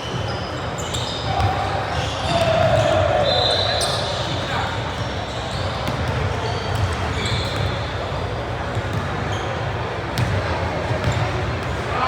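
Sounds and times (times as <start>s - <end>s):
sneakers squeaking: 0.0s - 11.8s
hum of crowd voices: 0.0s - 12.0s.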